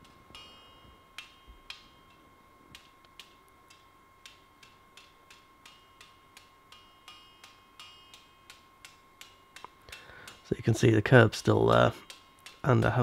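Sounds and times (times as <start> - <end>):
hammer tapping hot steel: 0.0 - 2.2, 2.8 - 13.0.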